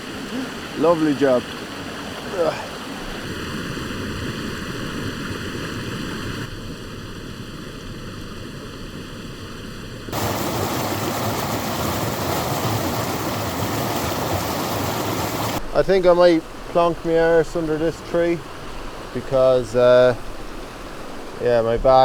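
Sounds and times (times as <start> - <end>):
stream rushing: 0.0 - 6.6, 10.1 - 22.0.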